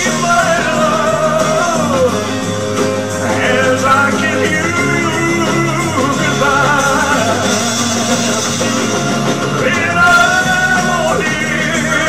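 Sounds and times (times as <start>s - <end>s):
instrumental backing track: 0.0s - 12.0s
man singing a slow ballad: 0.0s - 12.0s.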